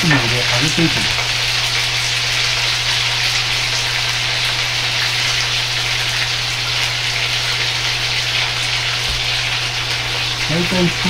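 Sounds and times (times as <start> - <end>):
food sizzling in hot oil: 0.0 - 11.0
low steady hum: 0.0 - 11.0.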